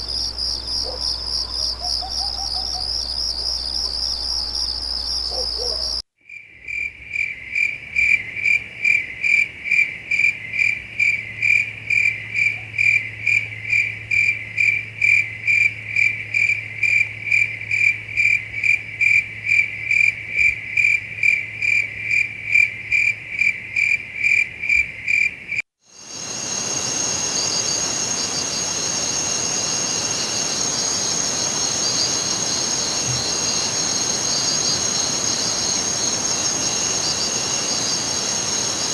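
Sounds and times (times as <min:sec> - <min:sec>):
chorus of crickets trilling: 0:00.0 - 0:06.0, 0:07.1 - 0:38.9
single cricket chirping: 0:00.0 - 0:06.0, 0:11.0 - 0:38.9.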